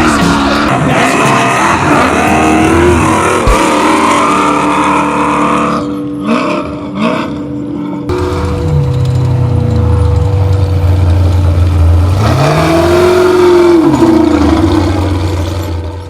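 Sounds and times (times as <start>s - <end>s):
race truck engine revving: 0.0s - 16.0s.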